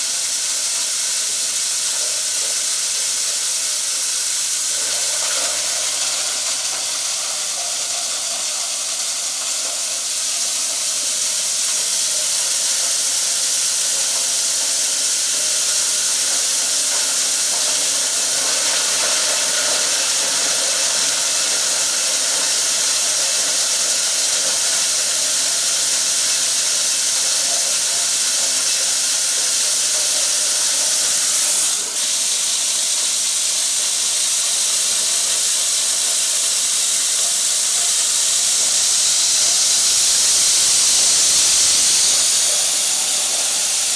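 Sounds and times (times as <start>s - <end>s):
high hissing rush of material: 0.0s - 43.9s.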